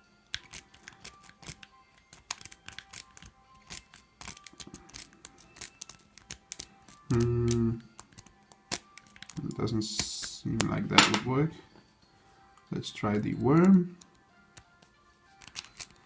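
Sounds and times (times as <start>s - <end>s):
faint music: 0.0s - 16.0s.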